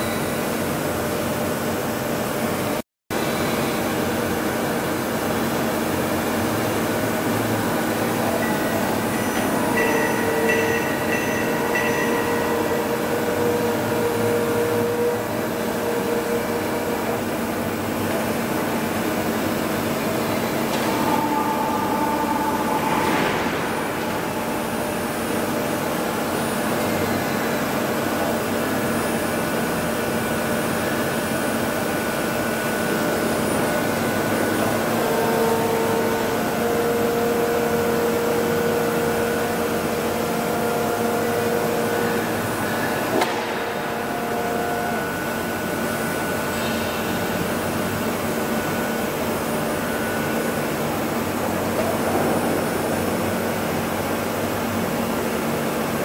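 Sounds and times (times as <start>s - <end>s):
boring machine humming: 3.1s - 56.0s.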